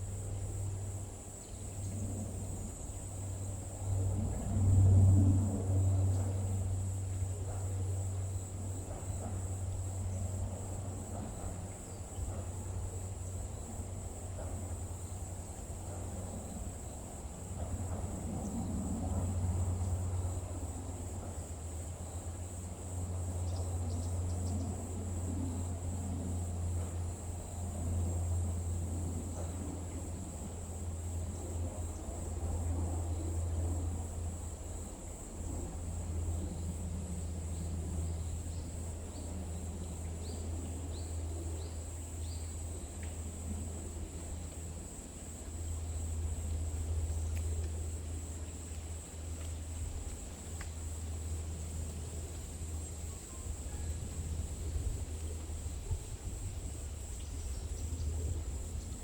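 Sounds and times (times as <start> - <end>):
crickets chirping: 0.0 - 59.0
low continuous rumble: 0.0 - 59.0.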